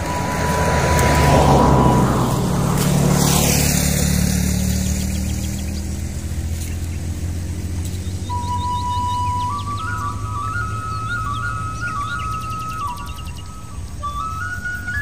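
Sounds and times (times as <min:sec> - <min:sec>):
low engine hum: 0:00.0 - 0:15.0
vehicle passing: 0:00.0 - 0:15.0.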